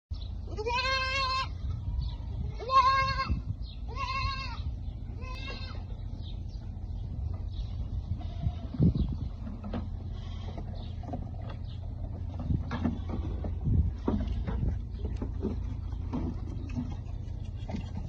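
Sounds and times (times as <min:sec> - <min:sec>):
low steady rumble: 0:00.1 - 0:18.0
farm animal bleating: 0:00.3 - 0:18.0.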